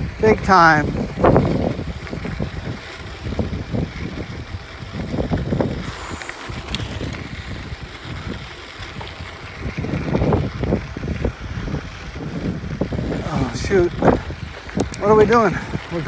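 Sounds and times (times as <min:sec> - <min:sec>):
bike rattling on dirt trail: 0:00.0 - 0:16.0
wind buffeting microphone: 0:00.0 - 0:16.0.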